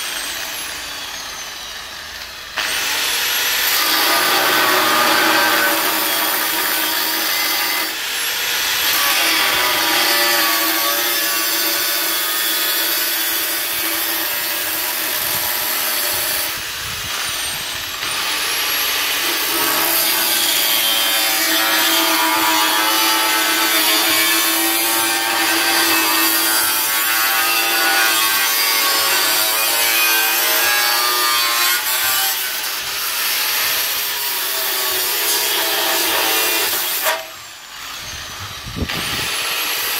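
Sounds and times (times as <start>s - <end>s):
angle grinder cutting sheet metal: 0.0s - 39.9s.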